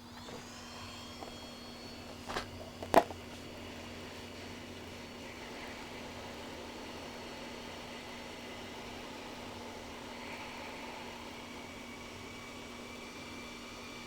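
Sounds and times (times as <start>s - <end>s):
hot air station fan hiss: 0.0s - 14.0s.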